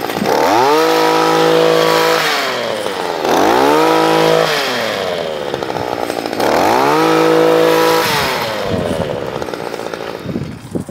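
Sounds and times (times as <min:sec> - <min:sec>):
small engine revving: 0:00.0 - 0:10.9.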